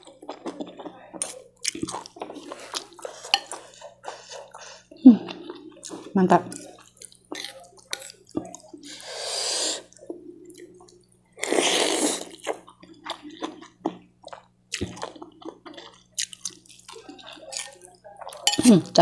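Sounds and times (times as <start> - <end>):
chewing: 0.0 - 18.8.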